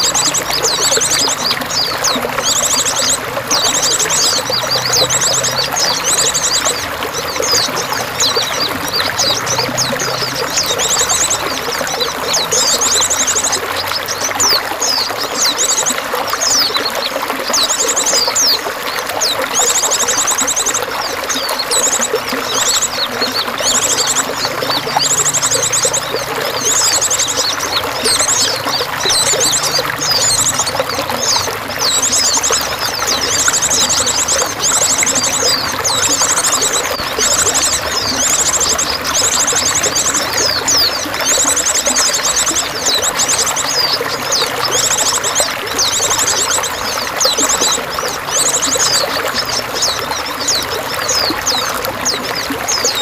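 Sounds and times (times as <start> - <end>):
songbirds chirping and trilling: 0.0 - 53.0
water splashing: 0.0 - 53.0.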